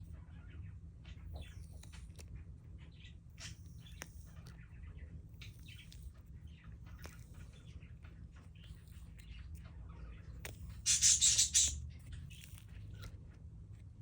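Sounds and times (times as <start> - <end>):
birds chirping: 0.0 - 12.5.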